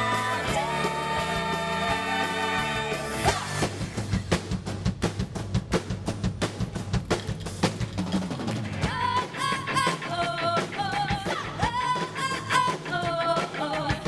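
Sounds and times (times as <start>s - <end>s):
pop-rock song with drums and guitar: 0.0s - 14.0s.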